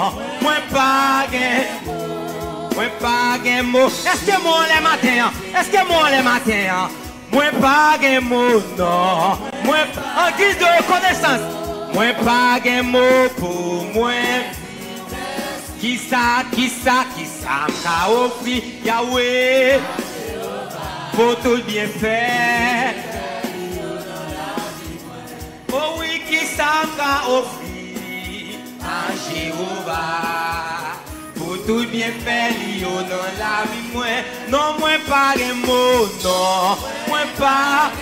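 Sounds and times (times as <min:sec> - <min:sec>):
drum kit: 0:00.0 - 0:38.0
man singing with vibrato: 0:00.0 - 0:38.0.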